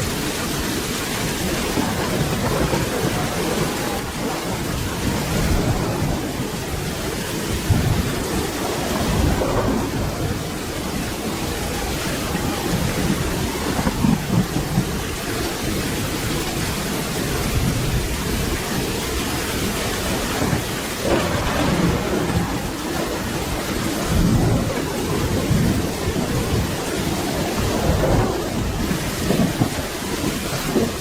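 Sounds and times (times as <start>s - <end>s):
low thunder rumbling: 0.0s - 31.0s
steady rain: 0.0s - 31.0s.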